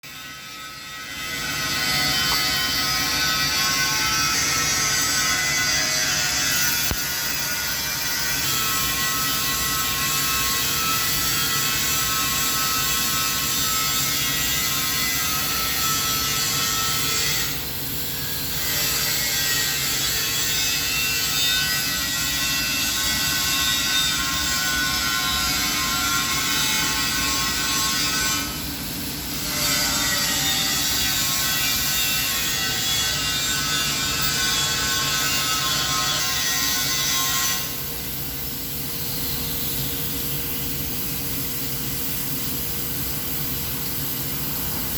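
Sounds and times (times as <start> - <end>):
welding arc hissing buzz: 0.1 - 44.9.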